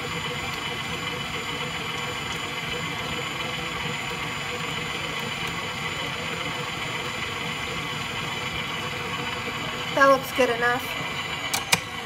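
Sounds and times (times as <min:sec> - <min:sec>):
stand mixer running: 0:00.0 - 0:12.0.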